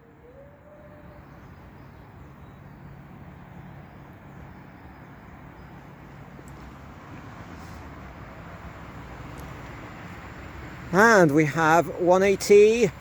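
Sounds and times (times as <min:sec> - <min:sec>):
diesel train low rumble: 0:00.0 - 0:13.0.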